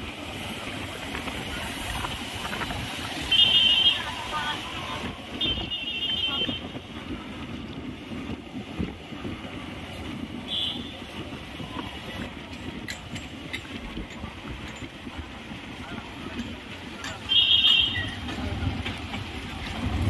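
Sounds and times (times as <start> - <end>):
road traffic rumble: 0.0 - 20.0
wind buffeting microphone: 0.0 - 20.0.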